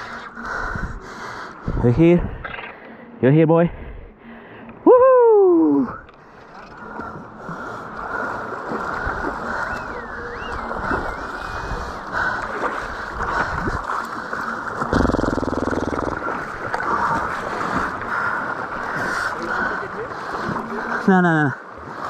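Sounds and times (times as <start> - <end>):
waves lapping: 0.0 - 4.8, 5.5 - 22.0.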